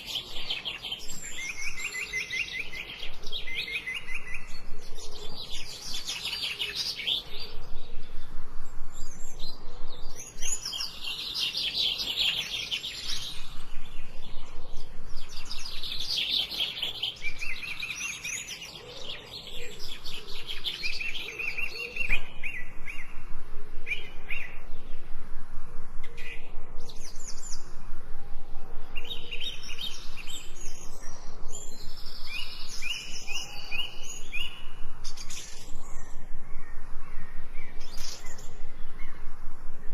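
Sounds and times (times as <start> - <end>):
faint background hiss: 0.0 - 39.9
songbirds singing and chirping: 0.0 - 39.9.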